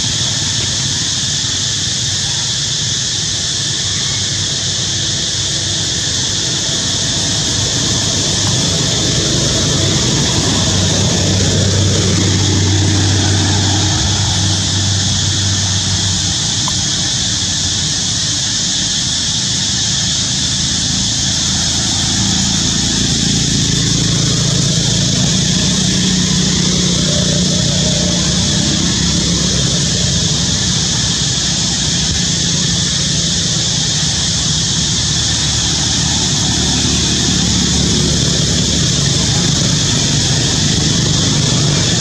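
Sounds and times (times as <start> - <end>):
low engine hum: 4.4 - 42.0.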